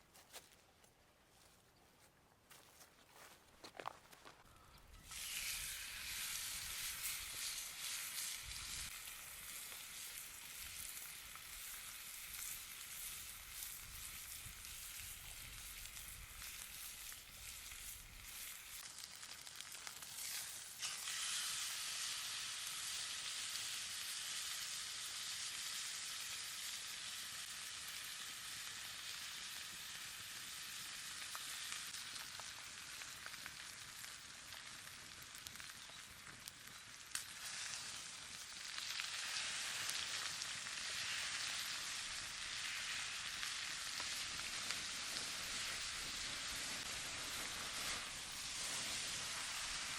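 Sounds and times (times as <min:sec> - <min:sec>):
steak sizzling in a pan: 0:05.0 - 0:49.9.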